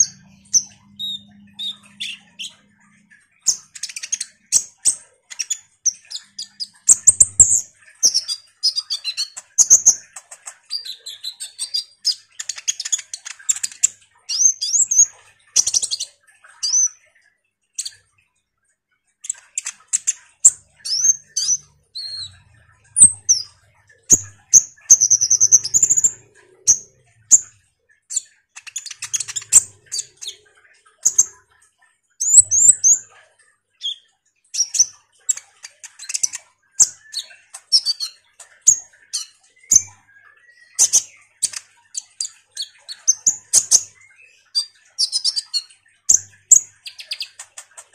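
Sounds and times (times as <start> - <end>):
bird chattering song: 0.0 - 17.1, 19.2 - 31.5, 32.2 - 47.9.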